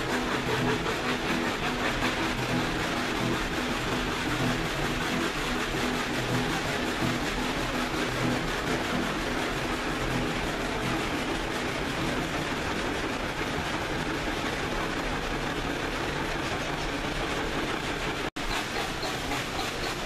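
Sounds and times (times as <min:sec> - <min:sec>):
train cars rattling: 0:00.0 - 0:20.0
train wheels rumbling on rails: 0:00.0 - 0:20.0.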